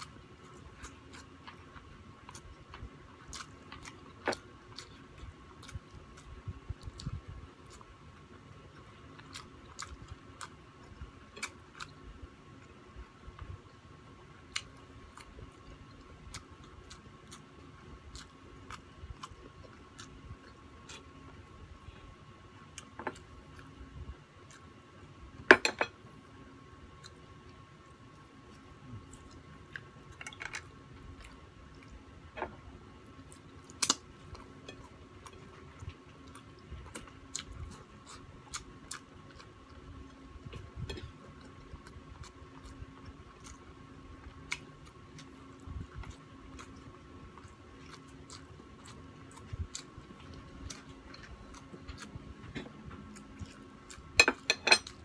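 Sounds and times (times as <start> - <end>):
person chewing: 0.0 - 12.8, 14.4 - 25.0, 26.9 - 55.0
faint steady hum: 0.0 - 55.0.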